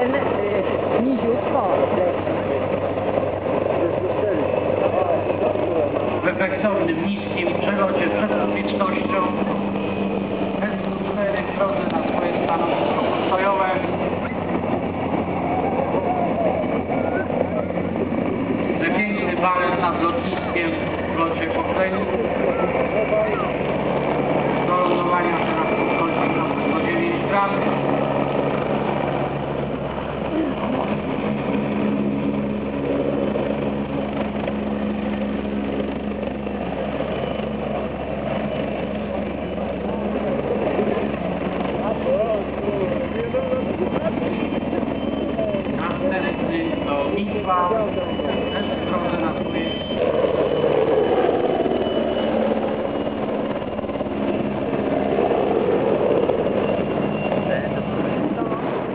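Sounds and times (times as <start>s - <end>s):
helicopter hovering: 0.0s - 58.9s.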